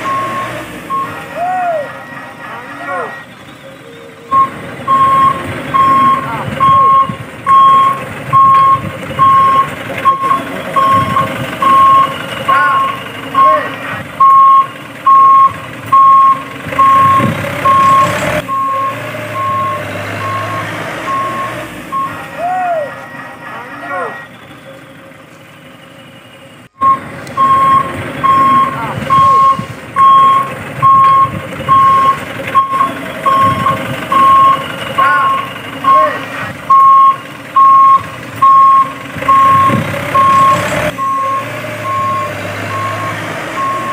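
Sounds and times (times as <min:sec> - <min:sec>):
truck warning beeper: 0:00.0 - 0:43.9.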